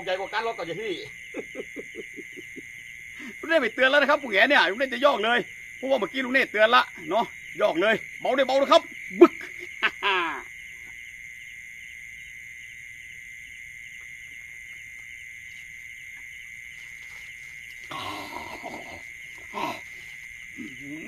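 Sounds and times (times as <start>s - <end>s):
insects and frogs trilling: 0.0s - 21.0s.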